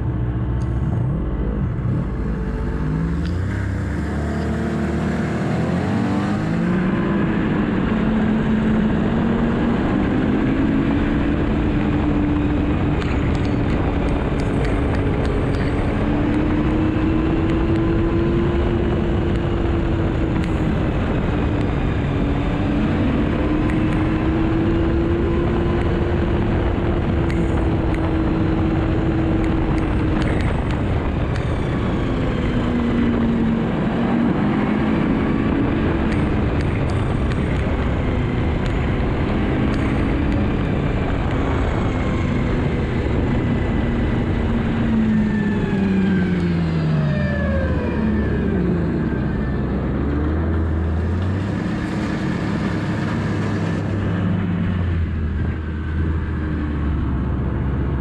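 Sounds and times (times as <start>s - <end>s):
snowmobile engine accelerating: 0.0s - 58.0s
steady rushing noise: 0.0s - 58.0s.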